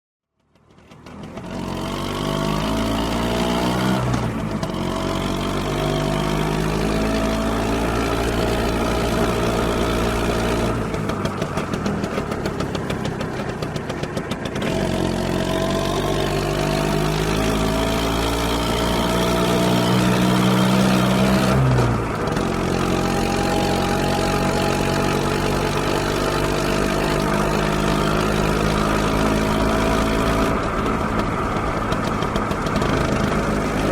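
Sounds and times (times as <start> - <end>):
motor scooter engine accelerating: 0.4 - 33.9.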